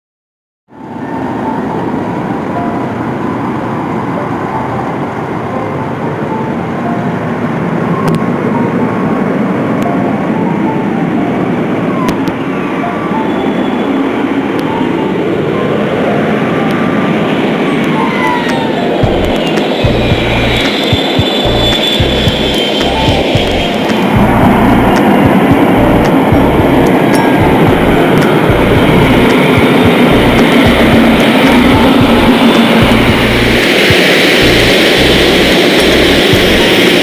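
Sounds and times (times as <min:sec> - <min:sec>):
jet engine whine: 0:00.7 - 0:37.0
jet engines roaring: 0:00.8 - 0:37.0.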